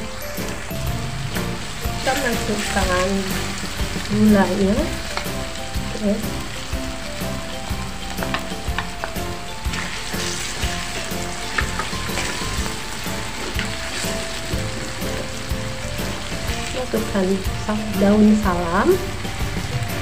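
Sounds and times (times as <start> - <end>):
paste sizzling in hot oil: 0.0 - 20.0.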